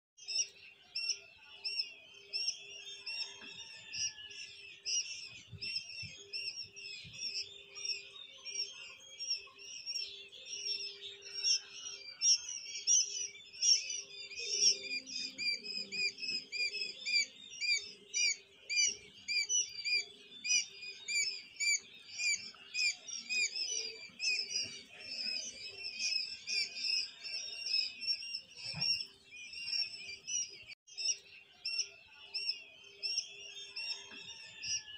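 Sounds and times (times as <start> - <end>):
quail chicks peeping: 0.2 - 34.9.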